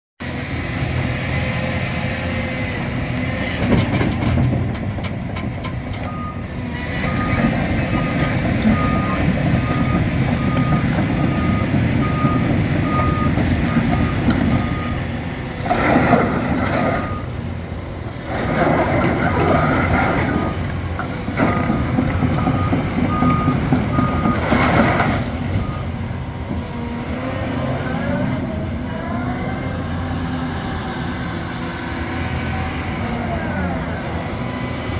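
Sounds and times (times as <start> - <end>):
excavator engine rumbling: 0.2 - 34.9.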